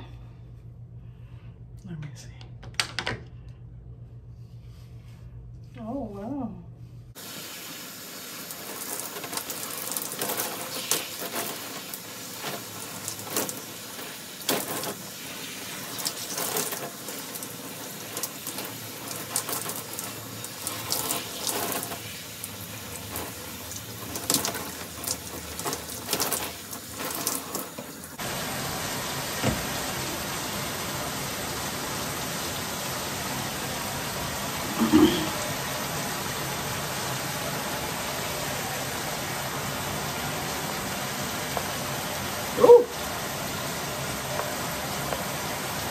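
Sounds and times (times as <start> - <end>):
steady water hiss: 7.1 - 45.9
shower spraying water on hair: 7.2 - 45.9.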